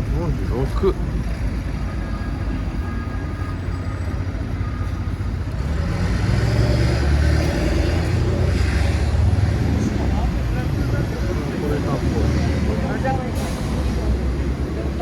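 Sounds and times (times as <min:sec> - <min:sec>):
street traffic: 0:00.0 - 0:15.0
vehicle engine rumble: 0:00.0 - 0:15.0.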